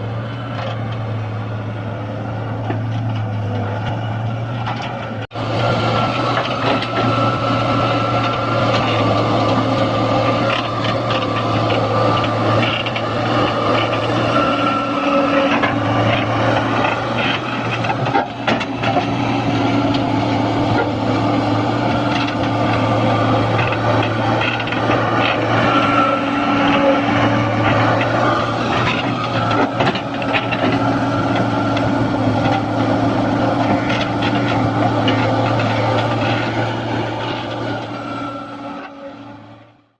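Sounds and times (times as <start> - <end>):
excavator diesel engine running: 0.0 - 40.0
hydraulics whine: 0.0 - 40.0.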